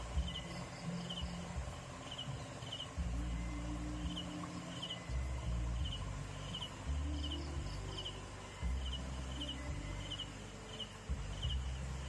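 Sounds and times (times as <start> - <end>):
crickets chirping: 0.0 - 12.0
steady low rumble: 0.0 - 12.0.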